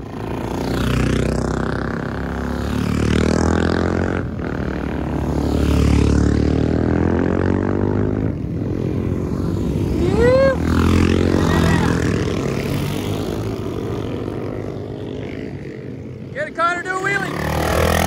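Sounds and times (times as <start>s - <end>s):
motorcycles passing: 0.0s - 18.0s.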